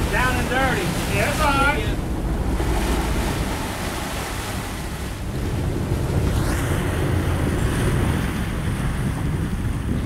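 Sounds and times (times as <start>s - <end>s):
water rushing along boat hull: 0.0s - 10.0s
wind buffeting microphone: 0.0s - 10.0s
low rumble: 0.8s - 10.0s.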